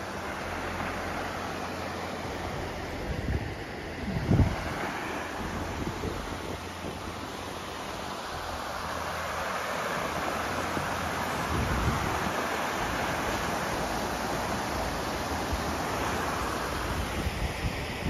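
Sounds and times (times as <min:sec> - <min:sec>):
river rushing over rapids: 0:00.0 - 0:18.0.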